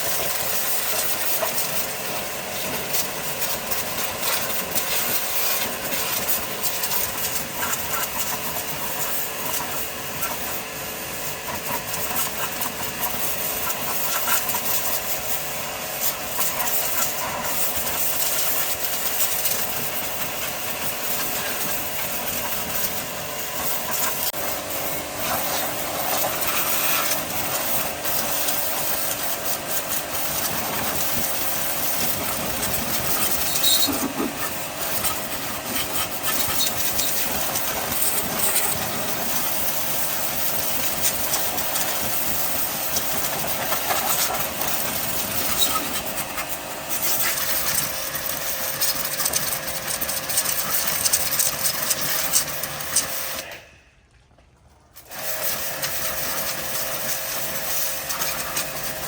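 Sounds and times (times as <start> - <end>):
machine running with a hiss: 0.0 - 54.1, 55.0 - 59.0.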